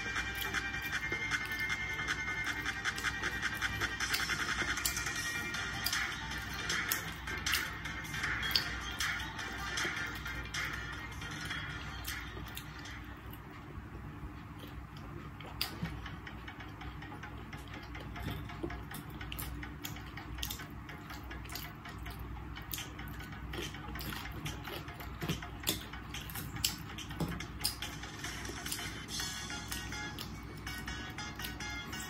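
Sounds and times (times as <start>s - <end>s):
chewing and wet mouth sounds: 0.0s - 32.0s.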